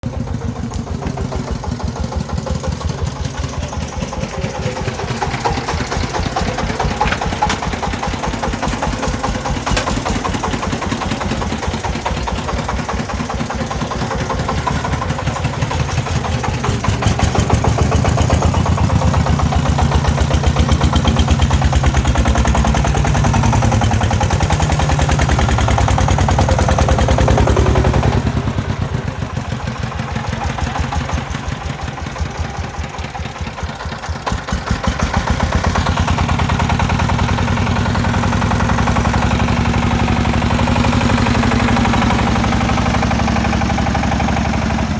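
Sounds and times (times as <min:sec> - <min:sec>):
diesel engine chugging: 0:00.0 - 0:44.9.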